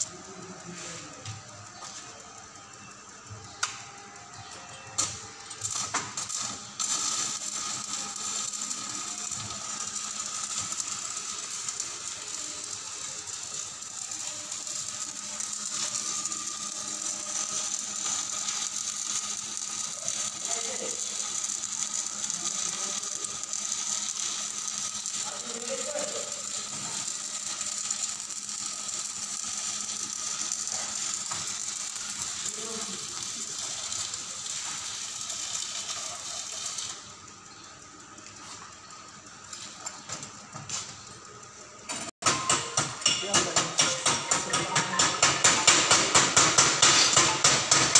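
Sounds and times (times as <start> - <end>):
welding arc crackling: 0.0 - 47.9.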